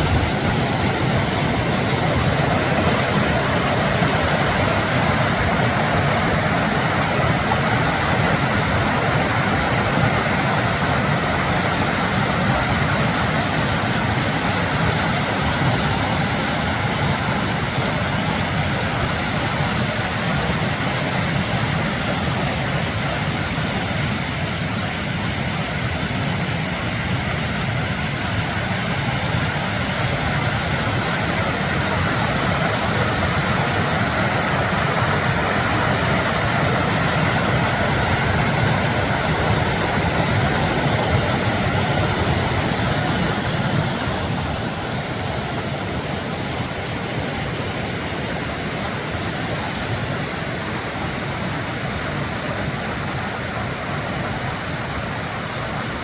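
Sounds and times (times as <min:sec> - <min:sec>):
mountain creek rushing: 0:00.0 - 0:56.0.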